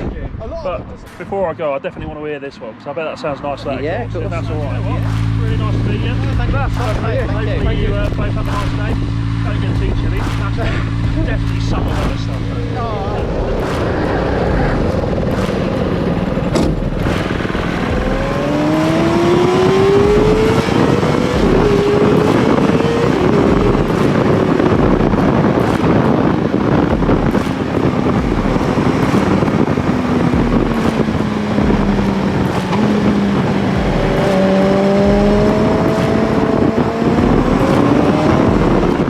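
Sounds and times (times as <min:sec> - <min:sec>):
rushing road and wind noise: 0:00.0 - 0:39.0
go-kart engine revving: 0:03.6 - 0:39.0.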